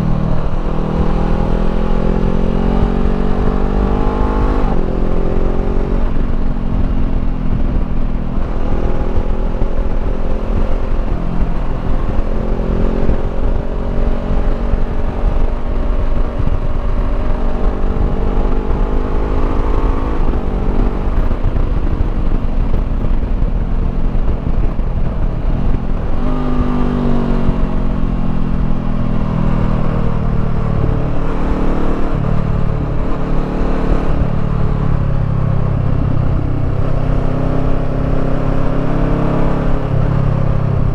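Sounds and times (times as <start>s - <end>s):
low wind rumble: 0.0s - 40.9s
motorcycle engine revving: 0.0s - 40.9s.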